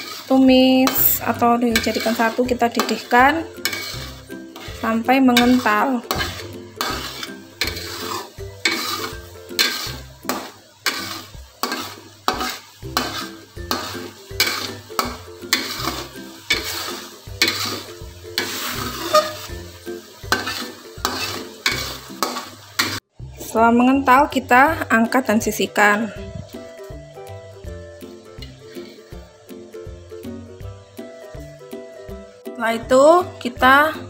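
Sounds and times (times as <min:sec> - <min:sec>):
metal spatula scraping wok: 0:00.0 - 0:23.0, 0:24.5 - 0:29.7
sauce bubbling and sizzling: 0:00.0 - 0:32.6.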